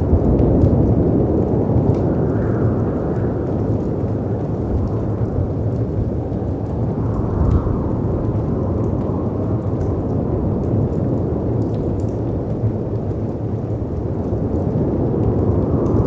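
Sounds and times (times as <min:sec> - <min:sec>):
faint fireplace crackles: 0:00.0 - 0:16.0
howling wind: 0:00.0 - 0:16.0.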